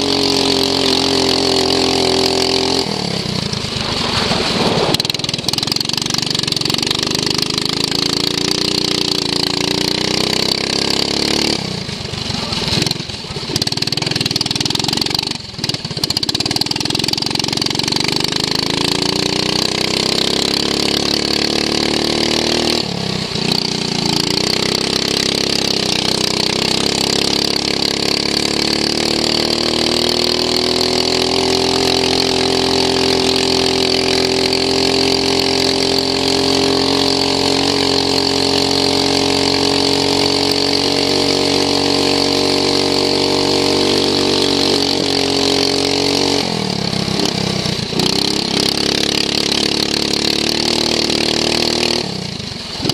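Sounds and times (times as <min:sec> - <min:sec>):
racing lawn mower engine revving: 0:00.0 - 0:52.9.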